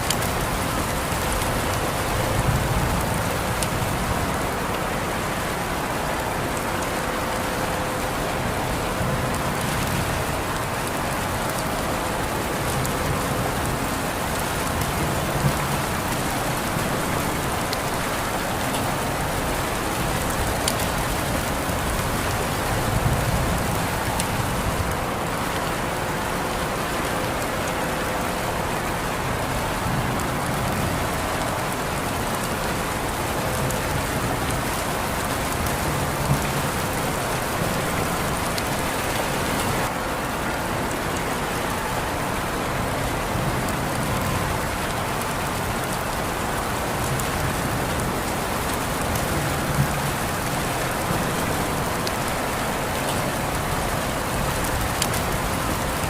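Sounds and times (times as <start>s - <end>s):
individual raindrops: 0.0s - 56.0s
rain falling on surfaces: 0.0s - 56.0s.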